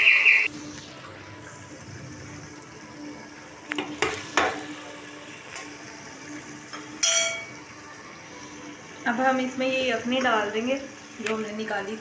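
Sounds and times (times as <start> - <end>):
curry sizzling in a pot: 0.1 - 12.0.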